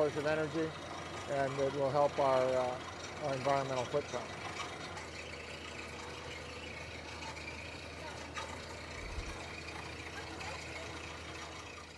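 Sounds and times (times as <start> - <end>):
drilling rig engine droning: 0.0 - 11.9.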